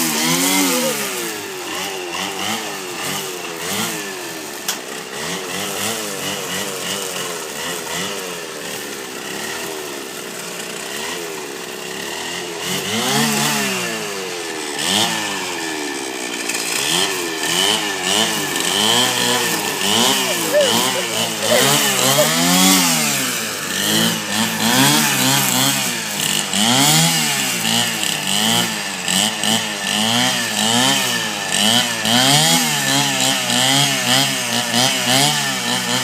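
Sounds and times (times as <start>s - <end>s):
brushcutter engine revving: 0.0s - 36.0s.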